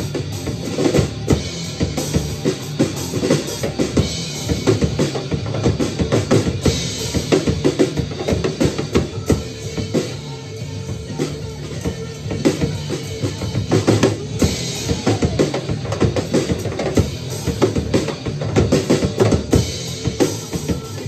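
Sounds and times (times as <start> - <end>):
drum kit playing rock beat: 0.0 - 21.0
recorded rock song: 0.0 - 21.0.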